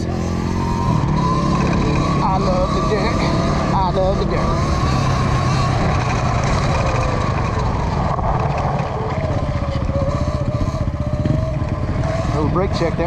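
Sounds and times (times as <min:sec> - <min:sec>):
electric motor whine: 0:00.0 - 0:13.0
rumble of tyres and wind: 0:00.0 - 0:13.0.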